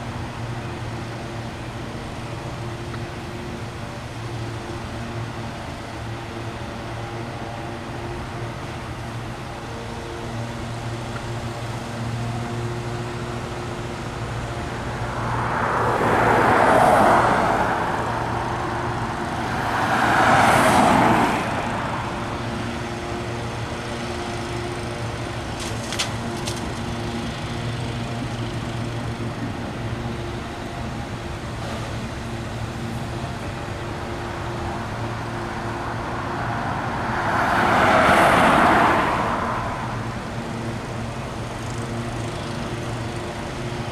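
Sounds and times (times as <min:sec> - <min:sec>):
low engine hum: 0:00.0 - 0:43.9
vehicles passing by: 0:00.0 - 0:43.9.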